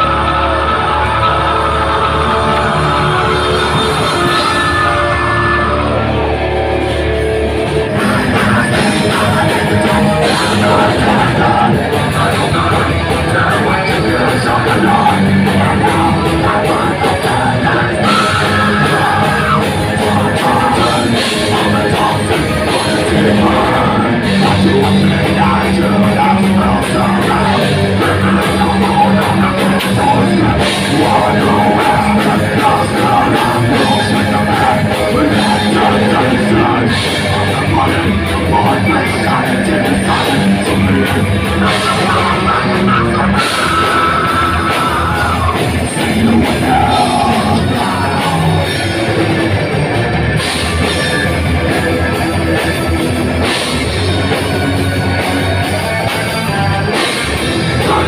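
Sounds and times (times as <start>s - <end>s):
vocals sung into microphones: 0.0s - 6.2s, 7.8s - 49.5s, 55.1s - 58.0s
heavy metal band playing live: 0.0s - 58.0s.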